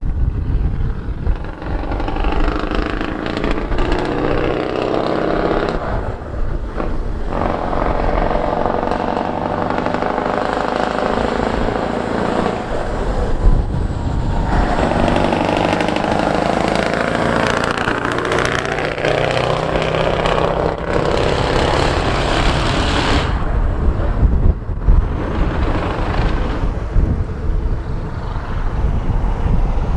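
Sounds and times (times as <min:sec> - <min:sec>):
diesel engine under load: 0:00.0 - 0:29.2.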